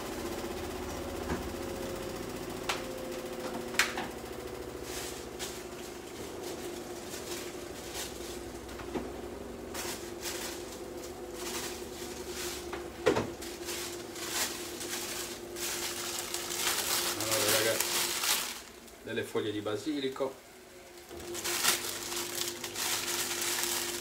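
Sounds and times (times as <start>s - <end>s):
kitchen appliance humming: 0.0s - 24.0s.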